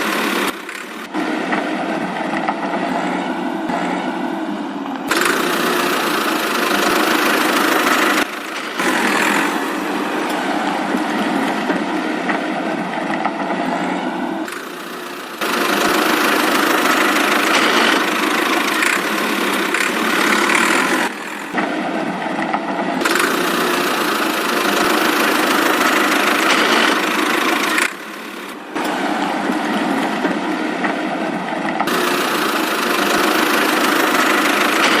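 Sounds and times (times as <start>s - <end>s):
motor running: 0.0s - 31.0s, 31.6s - 35.0s.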